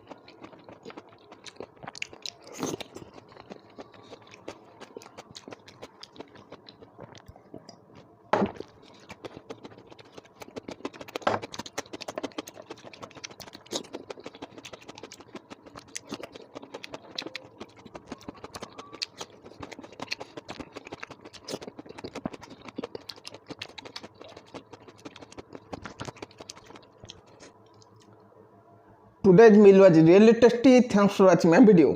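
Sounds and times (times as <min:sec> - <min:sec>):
person chewing food: 0:00.0 - 0:28.2.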